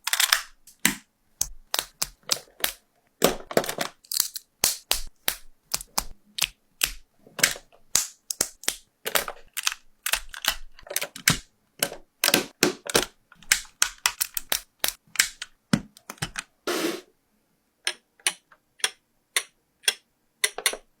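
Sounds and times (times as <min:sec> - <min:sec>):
plastic bricks clicking together: 0:00.0 - 0:16.4, 0:17.9 - 0:20.9.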